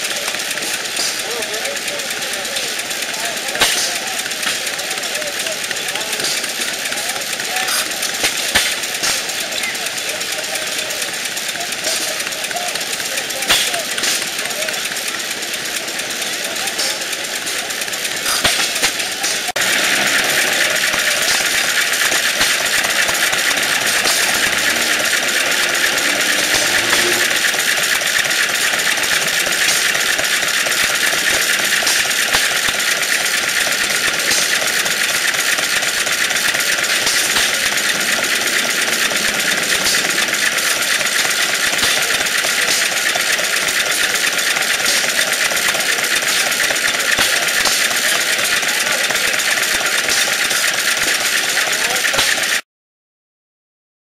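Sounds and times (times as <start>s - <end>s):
stationary gas engine running: 0.0s - 52.6s.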